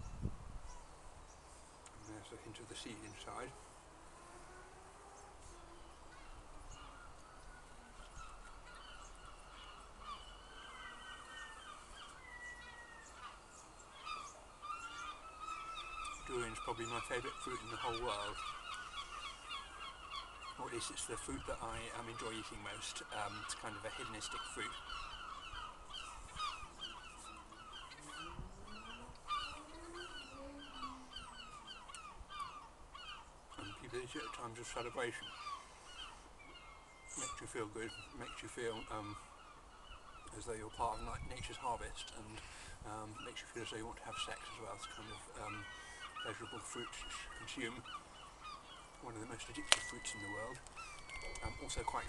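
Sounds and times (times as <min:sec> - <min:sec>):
birds chirping and calling: 0:00.0 - 0:52.0.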